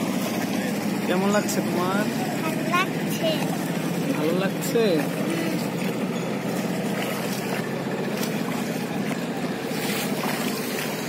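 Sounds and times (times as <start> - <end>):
boat engine rattle: 0.0 - 11.0
water noise: 0.0 - 11.0
wind: 0.0 - 11.0.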